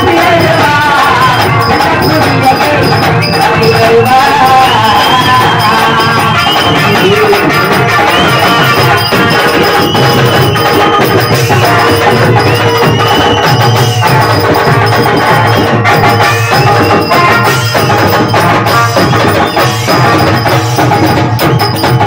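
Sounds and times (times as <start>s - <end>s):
high bending melody: 0.0s - 22.0s
quick drum beat: 0.0s - 22.0s.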